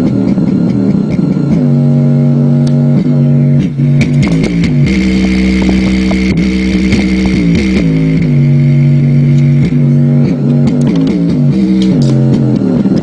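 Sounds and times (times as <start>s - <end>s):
deep bass notes from subwoofer: 0.0s - 13.0s
harsh noisy buzz: 0.0s - 13.0s.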